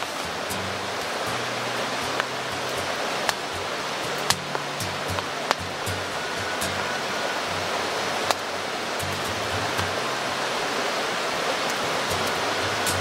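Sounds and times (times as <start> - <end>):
background music: 0.0 - 11.0, 11.8 - 13.0
rushing outdoor hiss: 0.0 - 13.0.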